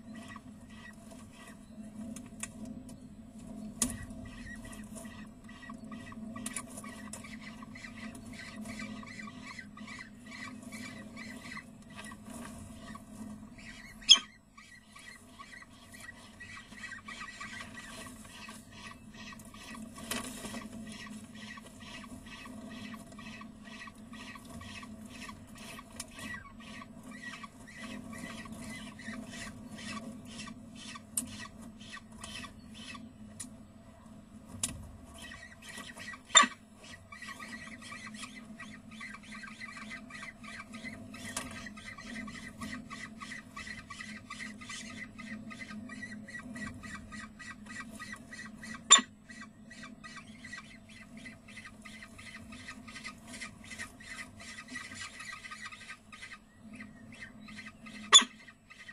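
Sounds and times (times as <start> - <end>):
falcon chicks begging calls: 3.9 - 12.2, 13.6 - 33.0, 35.2 - 58.9.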